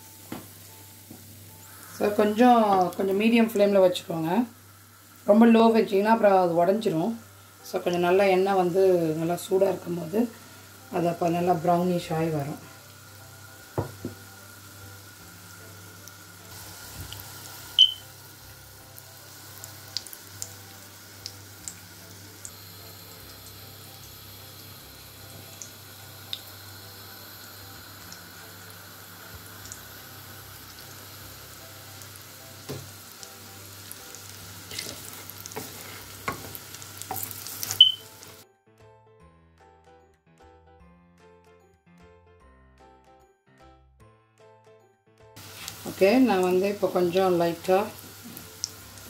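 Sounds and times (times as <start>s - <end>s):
fish sizzling in oil: 0.0s - 38.4s, 45.4s - 49.0s.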